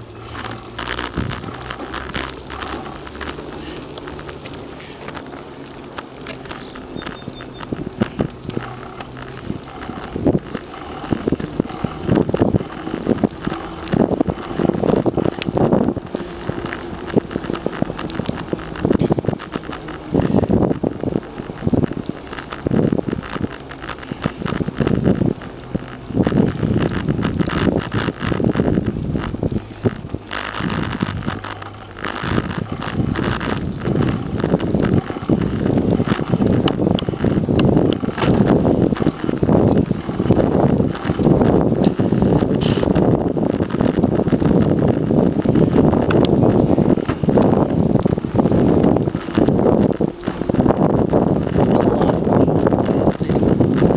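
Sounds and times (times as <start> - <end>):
bicycle rattles and knocks: 0.0 - 53.9
bicycle tyres rolling: 0.0 - 53.9
wind on microphone: 0.0 - 53.9.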